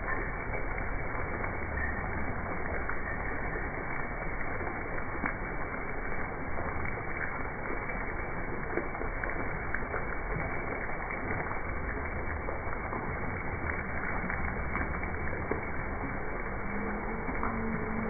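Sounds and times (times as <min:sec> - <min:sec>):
fountain water splashing into basin: 0:00.0 - 0:18.0.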